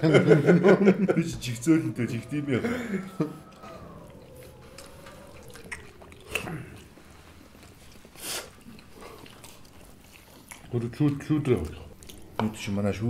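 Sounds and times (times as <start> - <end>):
people chewing: 0.0 - 13.0.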